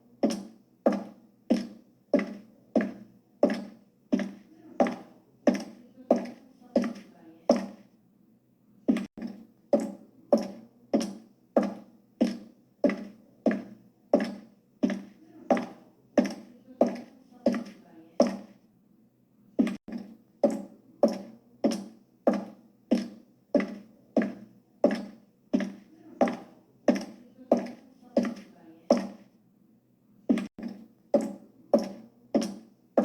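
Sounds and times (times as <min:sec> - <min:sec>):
high heel clicks: 0:00.2 - 0:07.8, 0:08.9 - 0:18.5, 0:19.6 - 0:29.2, 0:30.3 - 0:32.7.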